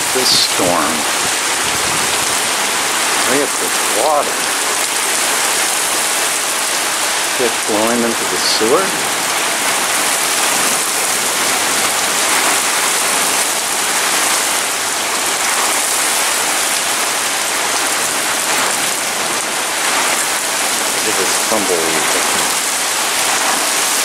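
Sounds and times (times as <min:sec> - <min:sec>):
heavy rain on pavement: 0:00.0 - 0:24.0.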